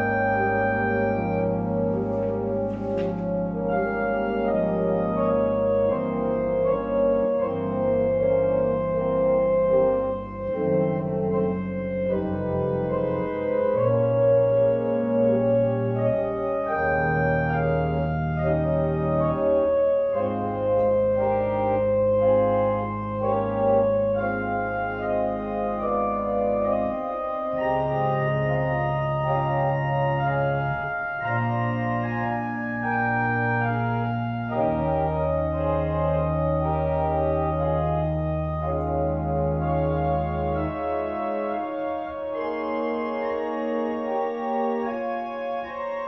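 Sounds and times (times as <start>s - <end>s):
organ playing hymn: 0.0s - 46.0s.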